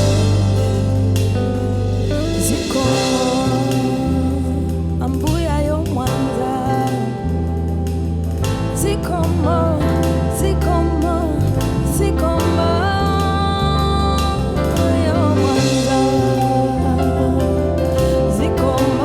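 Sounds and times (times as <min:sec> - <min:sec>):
woman singing: 0:00.0 - 0:01.4, 0:02.1 - 0:07.9, 0:08.7 - 0:19.0
band accompaniment with bass line: 0:00.0 - 0:19.0.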